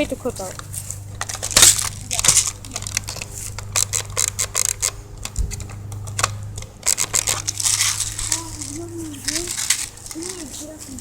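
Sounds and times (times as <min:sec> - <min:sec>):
steady low hum: 0:00.0 - 0:11.0
handling clicks and crackles: 0:00.3 - 0:11.0.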